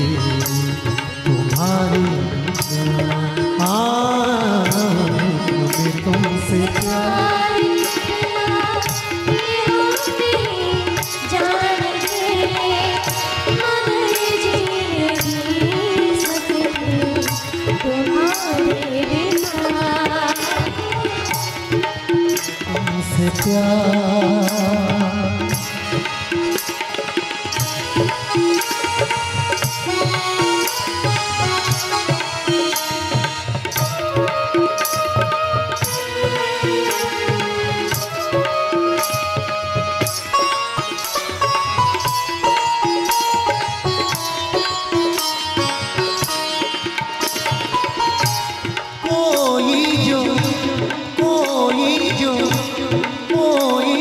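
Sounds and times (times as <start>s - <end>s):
tabla beat: 0.0s - 54.0s.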